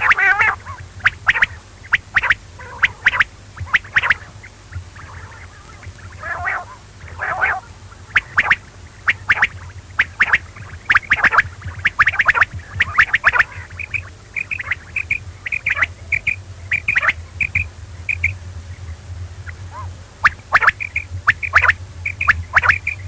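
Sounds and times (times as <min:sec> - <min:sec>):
quail calling: 0:00.0 - 0:23.0
steady low hum: 0:00.0 - 0:23.0.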